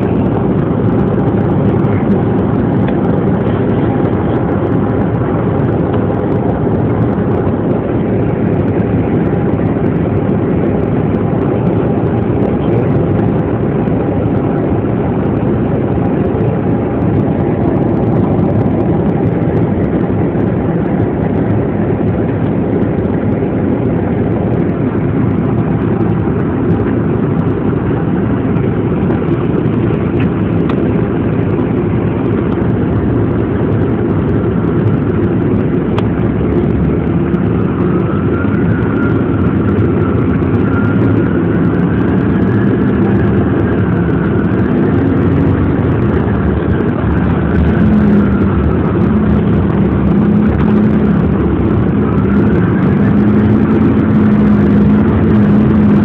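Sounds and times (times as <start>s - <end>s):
vehicle rumbling inside cabin: 0.0s - 56.0s.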